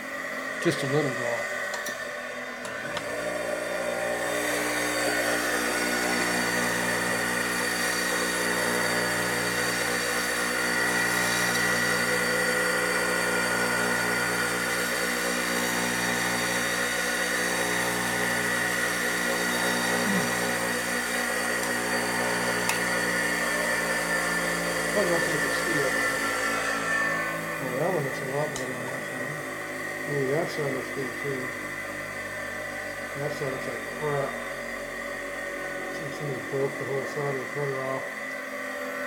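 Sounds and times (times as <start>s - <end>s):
electric motor humming: 0.0s - 39.0s.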